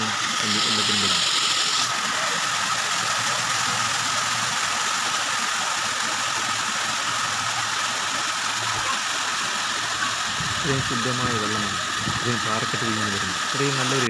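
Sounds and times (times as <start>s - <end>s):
water rushing over weir: 0.0s - 14.0s.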